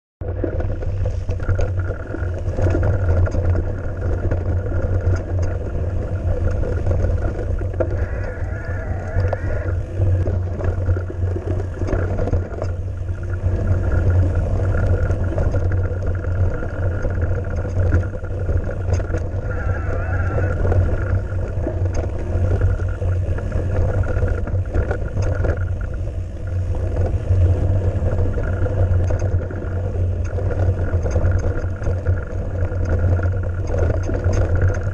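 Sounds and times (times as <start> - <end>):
bike clicks and rattles: 0.2 - 34.9
wind buffeting microphone: 0.3 - 34.9.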